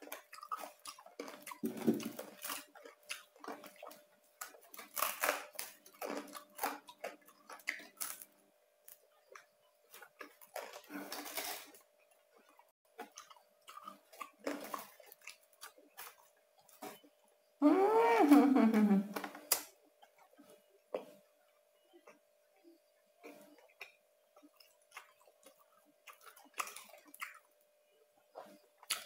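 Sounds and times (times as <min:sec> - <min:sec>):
crunchy chewing: 0:00.0 - 0:17.2, 0:19.3 - 0:29.0.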